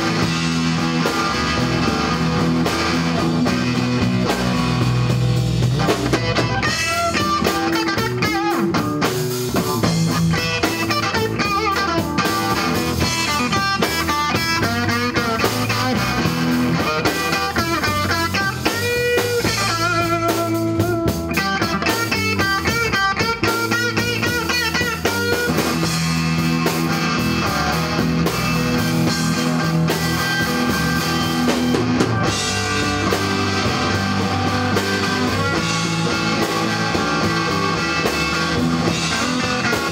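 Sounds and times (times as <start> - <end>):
bass guitar: 0.0 - 39.9
drum kit: 0.0 - 39.9
electric guitar with bending notes: 0.0 - 39.9.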